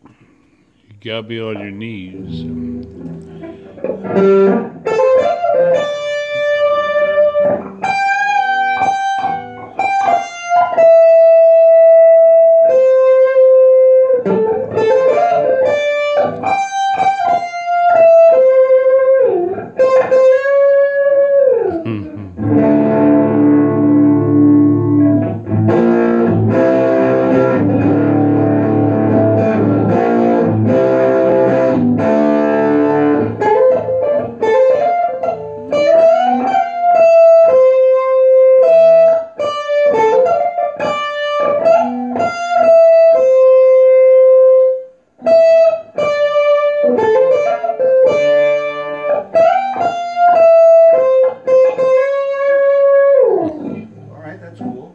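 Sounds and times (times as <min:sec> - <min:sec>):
electric guitar strummed chords: 0:01.0 - 0:54.7
electric guitar lead melody: 0:01.2 - 0:54.1.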